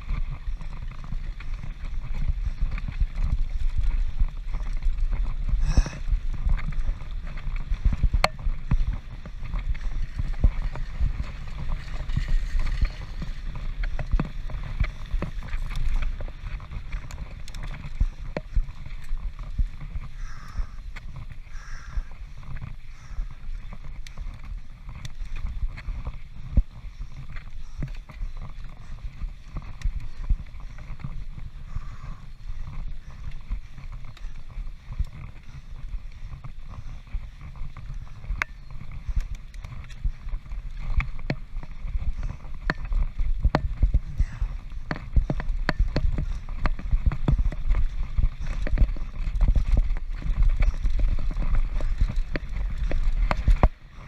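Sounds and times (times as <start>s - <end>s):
bike chain and frame rattling: 0.0s - 54.0s
wind buffeting microphone: 0.0s - 54.0s.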